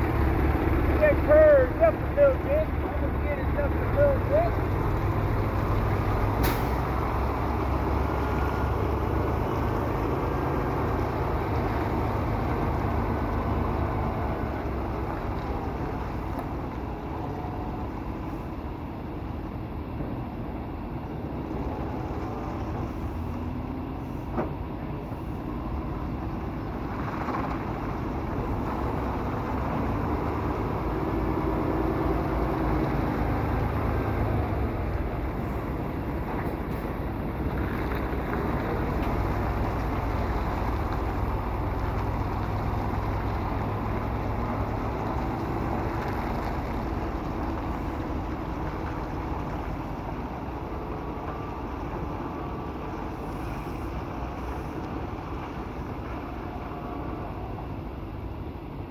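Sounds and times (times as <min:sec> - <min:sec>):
truck diesel engine running: 0:00.0 - 0:58.9.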